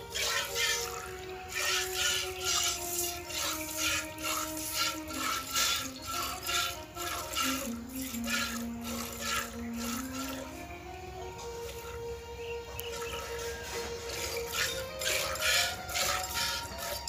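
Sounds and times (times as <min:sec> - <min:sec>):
milk squirting into metal pail: 0:00.0 - 0:10.6, 0:12.9 - 0:17.0
background music with held notes: 0:00.0 - 0:17.0.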